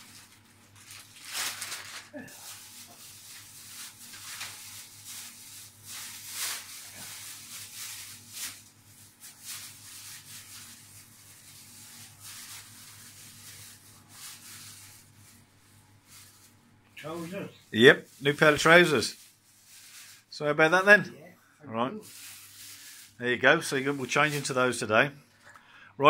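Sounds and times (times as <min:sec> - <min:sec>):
plastic and paper crinkling: 0:00.0 - 0:20.4, 0:22.0 - 0:25.6.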